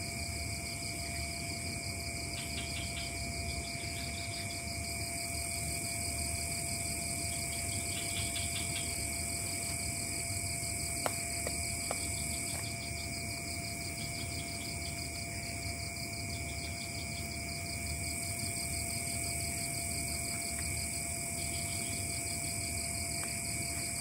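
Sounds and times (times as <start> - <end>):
fast pulsing insect trill: 0.0 - 24.0
insects buzzing: 0.0 - 24.0
low insect whine: 0.0 - 24.0.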